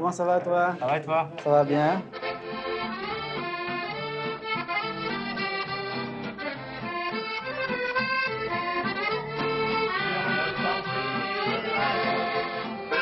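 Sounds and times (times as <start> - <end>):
traditional accordion music: 1.3 - 13.0.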